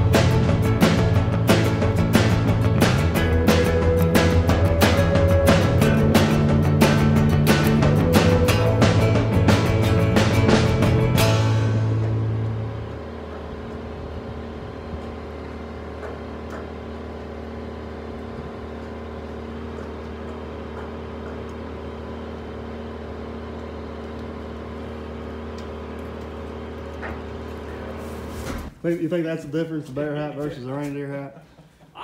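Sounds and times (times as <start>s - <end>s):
diesel engine idling: 0.0s - 28.4s.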